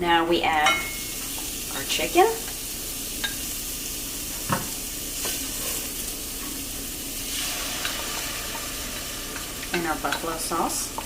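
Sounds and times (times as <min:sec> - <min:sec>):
chicken sizzling in a pan: 0:00.7 - 0:11.0.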